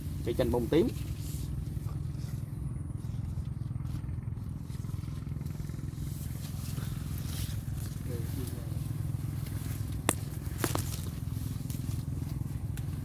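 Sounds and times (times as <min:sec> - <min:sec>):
small engine droning: 0:00.0 - 0:13.0.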